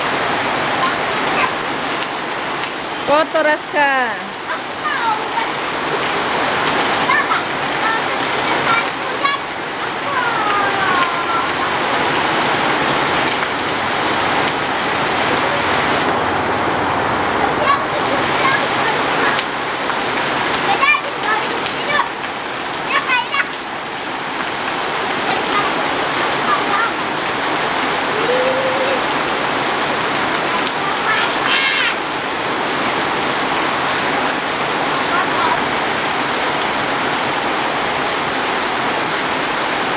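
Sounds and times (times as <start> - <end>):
heavy rain on brick paving: 0.0 - 39.9.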